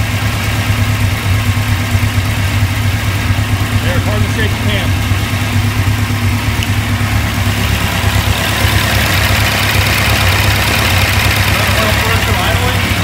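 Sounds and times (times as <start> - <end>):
air-cooled engine running: 0.0 - 13.0.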